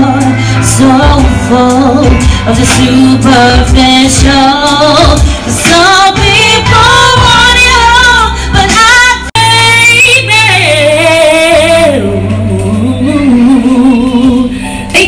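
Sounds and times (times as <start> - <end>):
low musical accompaniment: 0.0 - 15.0
woman singing a slow ballad: 0.0 - 15.0.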